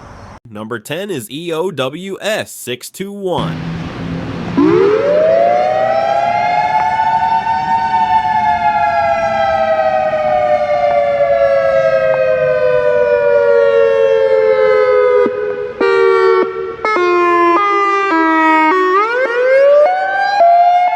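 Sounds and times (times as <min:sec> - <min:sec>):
outdoor warning siren wail: 0:03.6 - 0:20.9.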